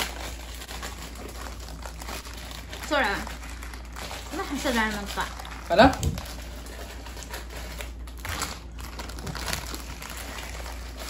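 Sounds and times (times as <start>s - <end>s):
dry noodles crackling: 0.0s - 11.0s
low steady hum: 0.0s - 11.0s
plastic wrappers crinkling: 0.0s - 11.0s.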